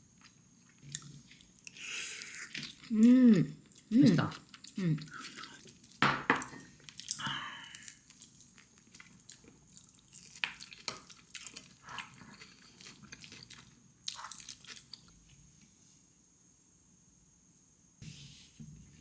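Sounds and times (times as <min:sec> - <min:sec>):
person chewing food: 0:00.0 - 0:15.4.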